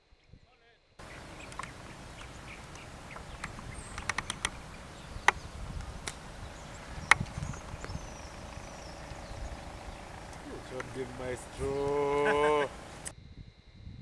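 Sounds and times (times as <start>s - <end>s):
bird chirps: 1.0s - 13.1s
golf club striking ball: 1.0s - 13.1s.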